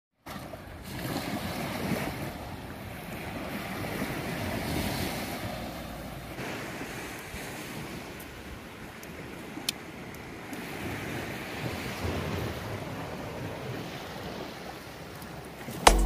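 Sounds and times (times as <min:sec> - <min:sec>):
waves washing on shore: 0:00.2 - 0:16.0.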